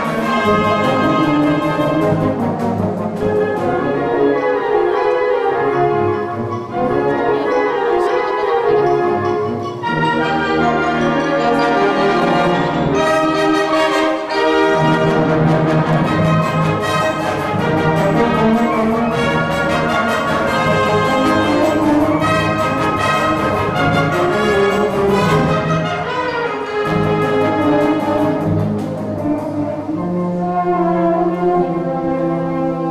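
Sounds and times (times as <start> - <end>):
brass: 0.0 - 32.9
low brass: 0.0 - 32.9
wind band playing: 0.0 - 32.9.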